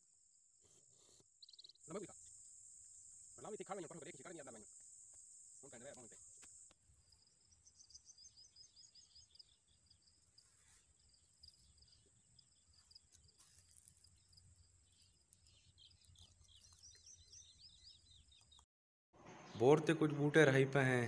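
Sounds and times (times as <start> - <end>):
faint birds chirping: 0.6 - 21.0.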